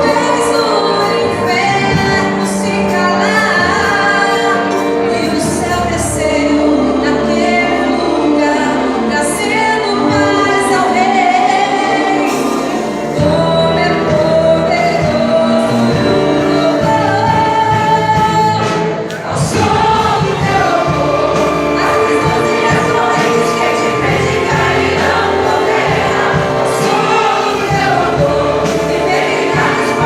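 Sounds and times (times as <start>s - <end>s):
church orchestra playing a hymn: 0.0s - 30.0s
voices singing along: 0.0s - 30.0s.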